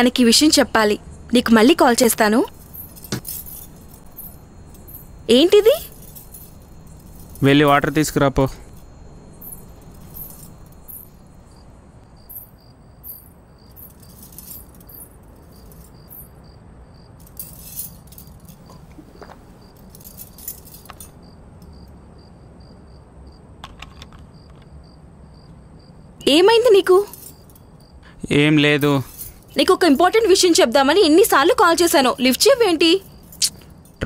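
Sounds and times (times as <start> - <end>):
light metallic jingling: 0.0 - 22.0, 23.7 - 34.0
insect chirping: 0.0 - 34.0.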